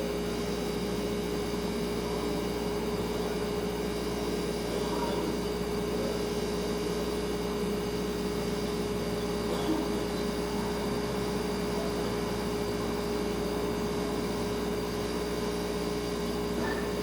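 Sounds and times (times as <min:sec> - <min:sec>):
refrigerator humming: 0:00.0 - 0:17.0.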